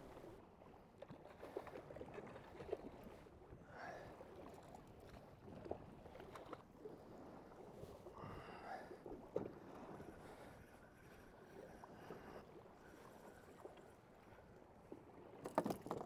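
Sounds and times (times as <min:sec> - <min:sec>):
water lapping against hull: 0:00.0 - 0:16.0.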